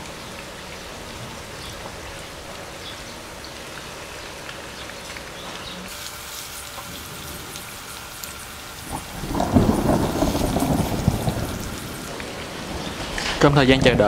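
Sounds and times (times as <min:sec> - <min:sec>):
tofu deep-frying in oil: 0:00.0 - 0:13.0.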